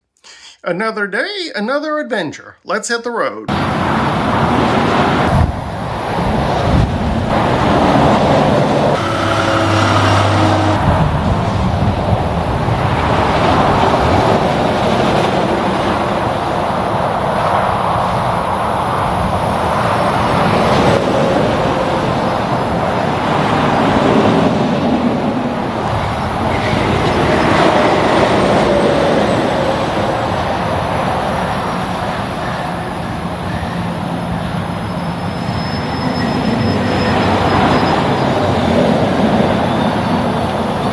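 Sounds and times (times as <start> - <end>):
engine drone: 3.5 - 40.9
highway traffic: 3.5 - 40.9.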